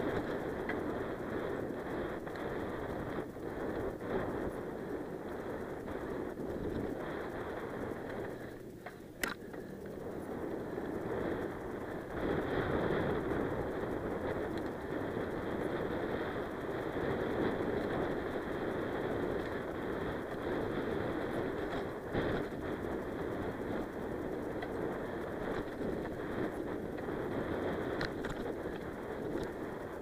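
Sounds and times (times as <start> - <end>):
bike clack: 0.0 - 12.2, 12.8 - 30.0.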